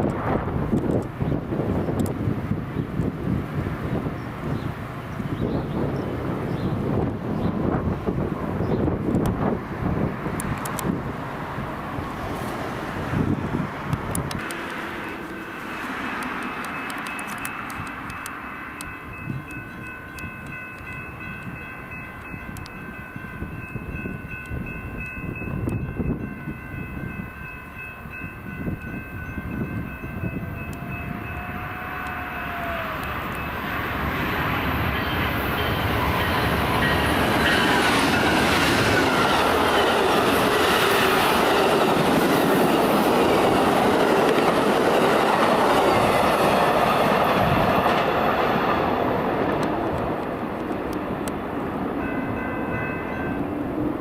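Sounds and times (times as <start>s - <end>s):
train passing close by: 0.0s - 54.0s.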